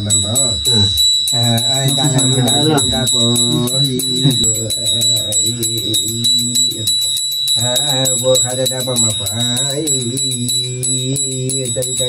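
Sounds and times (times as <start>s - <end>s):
person singing or chanting: 0.0s - 7.0s, 7.6s - 12.0s
jingling bells: 0.0s - 12.0s.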